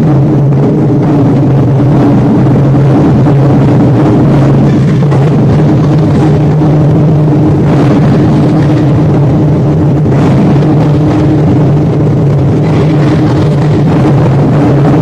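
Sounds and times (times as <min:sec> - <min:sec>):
barrel drums rolling: 0:00.0 - 0:15.0.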